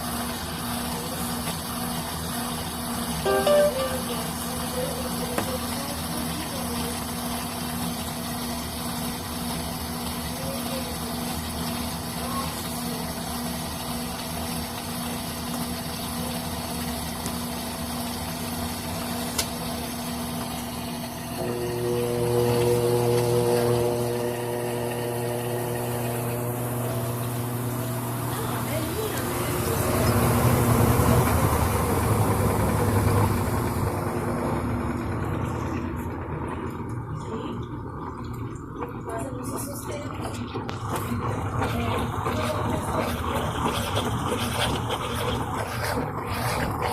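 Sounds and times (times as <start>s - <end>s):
washing machine humming: 0.0s - 46.9s.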